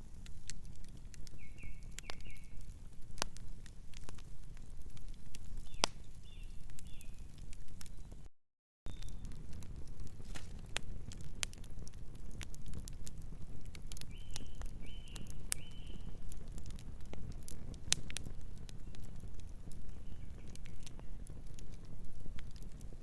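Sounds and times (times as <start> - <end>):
wood fire crackling: 0.0 - 8.3, 8.9 - 23.0.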